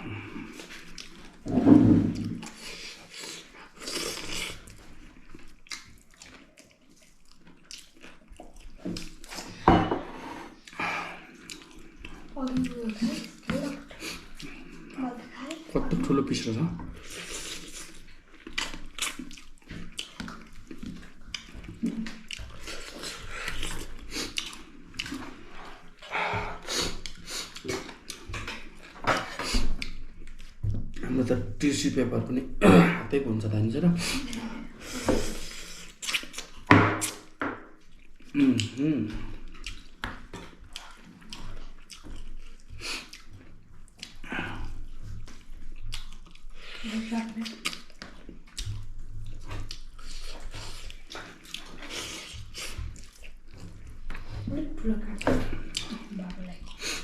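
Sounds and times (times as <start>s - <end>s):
chewing and lip-smacking: 0.1s - 1.5s, 2.1s - 9.6s, 10.5s - 31.1s, 34.0s - 57.0s.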